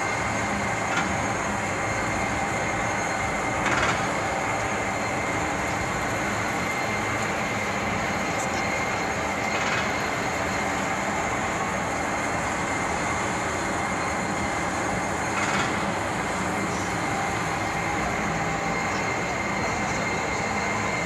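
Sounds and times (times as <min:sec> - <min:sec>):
railway turntable running: 0:00.0 - 0:21.0.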